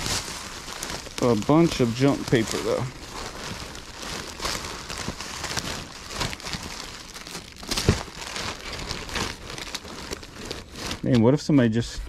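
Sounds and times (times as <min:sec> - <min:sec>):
plastic and paper crinkling: 0:00.0 - 0:11.8.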